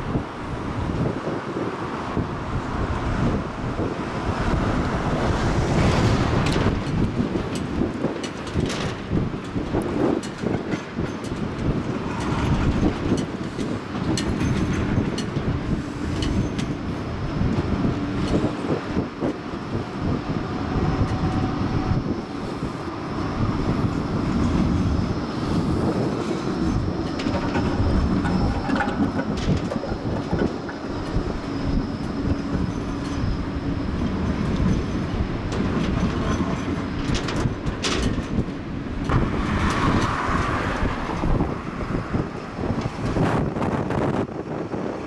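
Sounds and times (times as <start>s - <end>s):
tram running on rails: 0.0s - 45.0s
wheels clicking over track: 2.4s - 45.0s.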